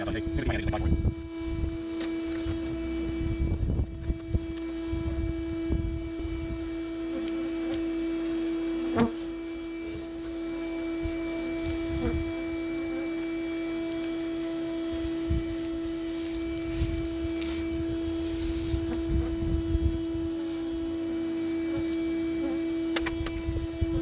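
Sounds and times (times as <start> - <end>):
vacuum motor humming: 0.0 - 24.0.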